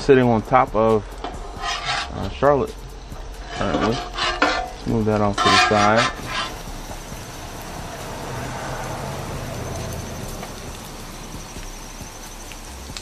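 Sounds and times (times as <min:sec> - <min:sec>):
bacon and egg sizzling: 0:00.4 - 0:13.0.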